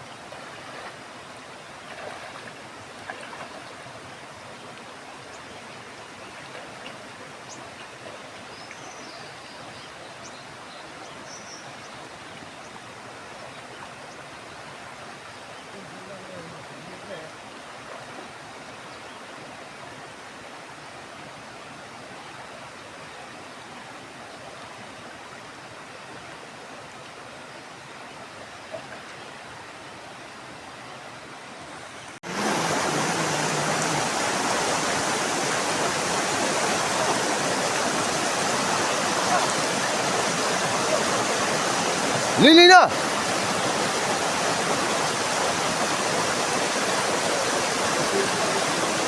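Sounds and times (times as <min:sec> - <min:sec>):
mountain river rushing: 0:00.0 - 0:49.0.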